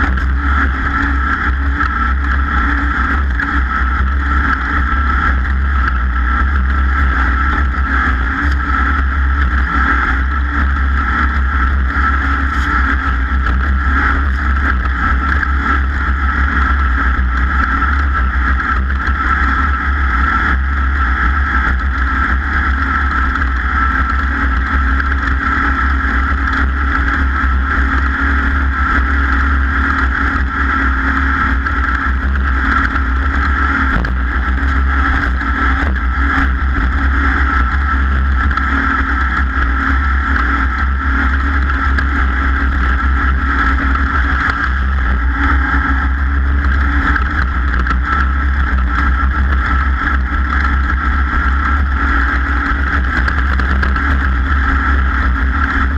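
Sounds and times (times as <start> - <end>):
racing engine running hard: 0.0 - 55.9.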